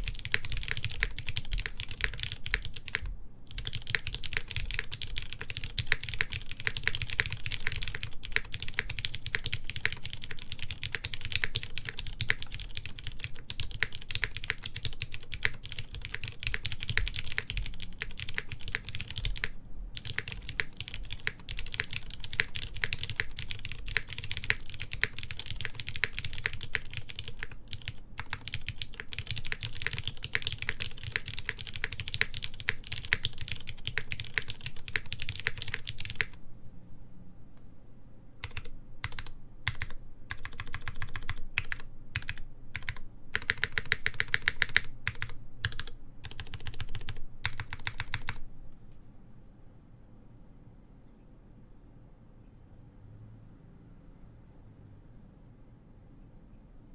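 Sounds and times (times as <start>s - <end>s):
fast typing on mechanical keyboard: 0.0s - 36.4s, 38.4s - 48.4s.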